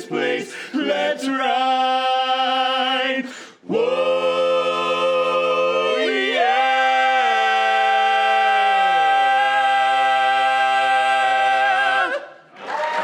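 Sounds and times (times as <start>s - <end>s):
quartet singing a cappella: 0.0s - 12.4s.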